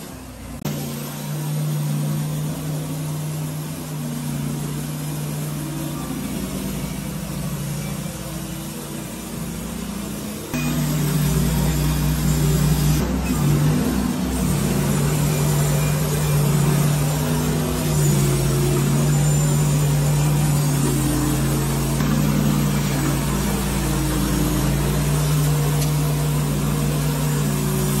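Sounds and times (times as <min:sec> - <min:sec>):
sawmill engine humming: 0:00.0 - 0:28.0.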